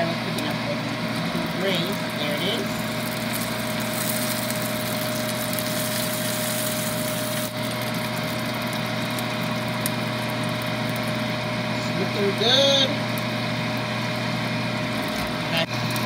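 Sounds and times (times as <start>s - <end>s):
rotisserie oven humming: 0.0s - 16.0s.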